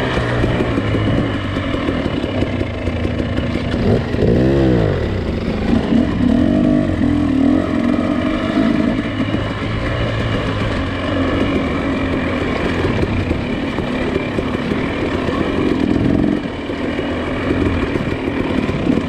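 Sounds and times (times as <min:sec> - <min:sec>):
clatter: 0:00.0 - 0:19.0.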